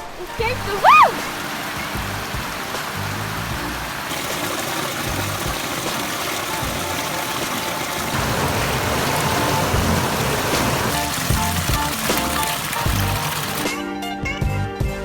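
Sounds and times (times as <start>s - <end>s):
stream rushing: 0.0s - 13.7s.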